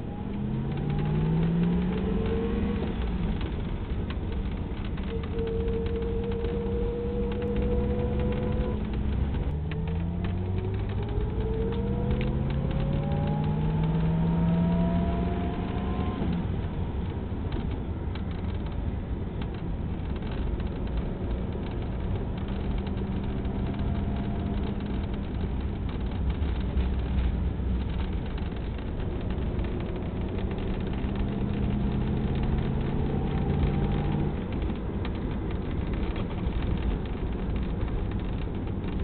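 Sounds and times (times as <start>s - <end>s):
car engine accelerating: 0.0s - 39.0s
road rumble: 0.0s - 39.0s.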